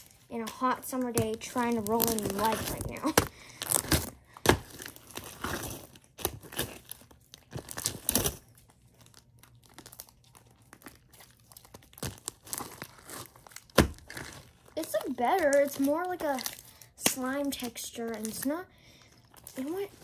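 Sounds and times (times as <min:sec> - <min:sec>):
slime squelching and crackling: 0:00.0 - 0:20.0.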